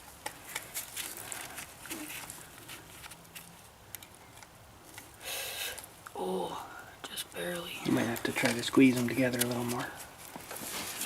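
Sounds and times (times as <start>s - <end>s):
light clicks and handling noise: 0.0s - 6.2s, 7.8s - 11.0s.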